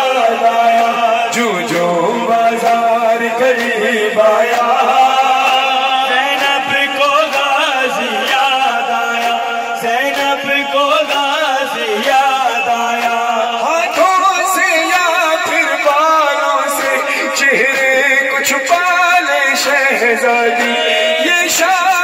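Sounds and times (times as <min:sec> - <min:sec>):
men chanting through loudspeaker: 0:00.0 - 0:22.0.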